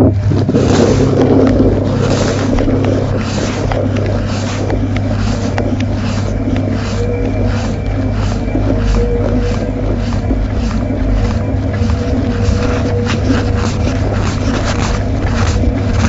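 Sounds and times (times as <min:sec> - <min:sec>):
low motor hum: 0:00.0 - 0:16.0
water and laundry sloshing: 0:00.0 - 0:16.0
sharp ticks: 0:00.1 - 0:16.0.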